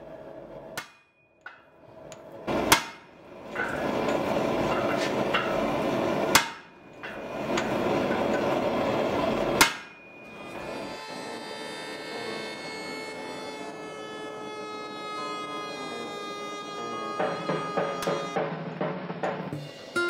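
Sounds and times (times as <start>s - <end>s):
steady background noise: 0.0s - 20.0s
hammer striking steel: 0.7s - 15.0s, 16.5s - 20.0s.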